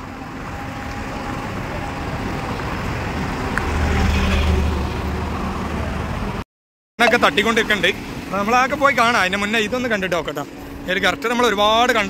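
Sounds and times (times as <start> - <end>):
heavy diesel engine humming: 0.0 - 6.4, 7.0 - 12.0.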